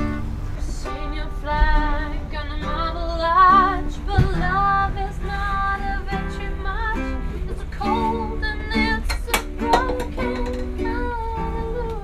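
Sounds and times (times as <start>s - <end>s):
accompanying music: 0.0s - 12.0s
woman singing with vibrato: 0.0s - 12.0s.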